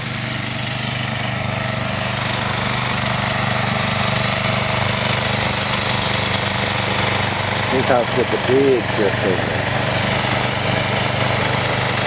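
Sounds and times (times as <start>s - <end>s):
snowblower running: 0.0s - 12.0s.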